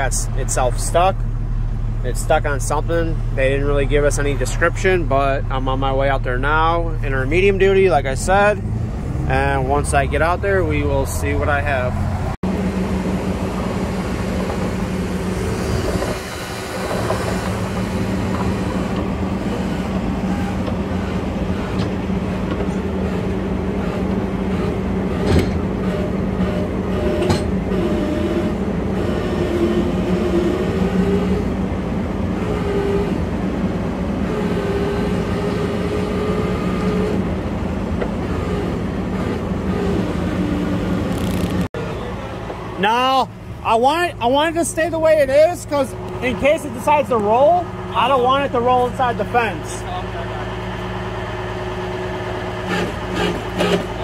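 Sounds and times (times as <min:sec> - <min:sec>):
tow truck engine hum: 0:00.0 - 0:54.0
winch whine: 0:00.0 - 0:54.0.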